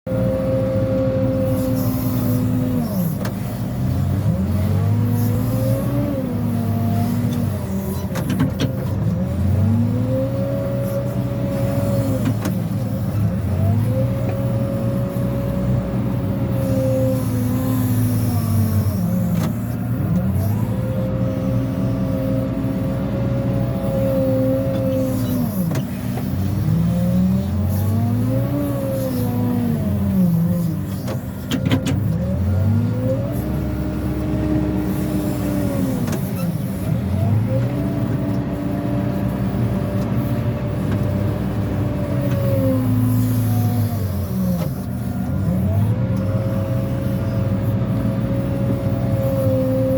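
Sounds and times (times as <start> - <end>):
diesel engine revving: 0.1 - 49.9.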